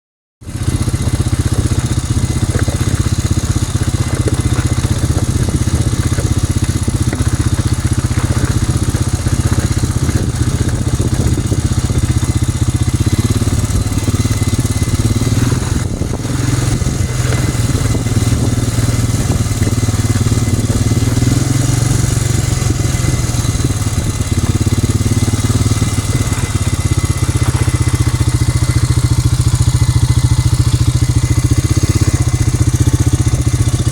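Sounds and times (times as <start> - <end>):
engine running steadily: 0.4 - 33.9.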